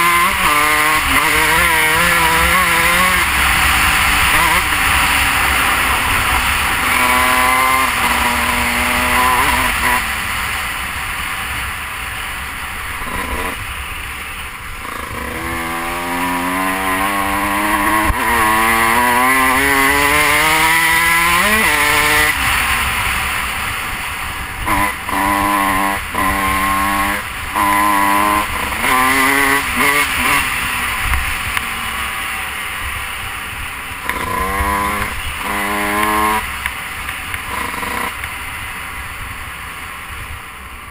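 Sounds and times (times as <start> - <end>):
dirt bike engine revving: 0.0 - 38.6.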